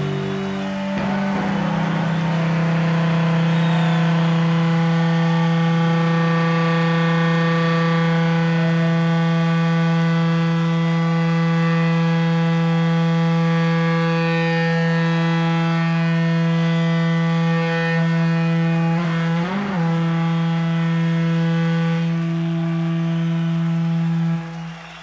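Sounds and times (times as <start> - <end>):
distorted electric guitar note: 0.0 - 24.7.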